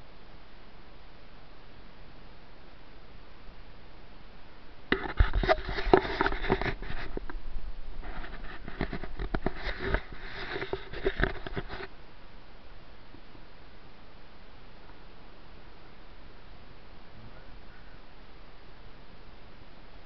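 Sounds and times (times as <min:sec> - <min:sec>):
rustling and crackling at microphone: 0:00.0 - 0:20.0.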